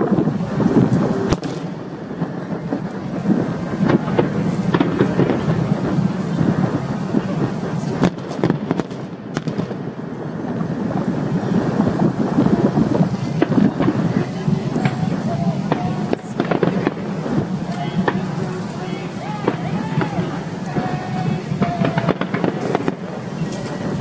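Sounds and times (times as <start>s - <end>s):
firework bangs: 0.0s - 24.0s
fireworks crackling and popping: 0.0s - 24.0s.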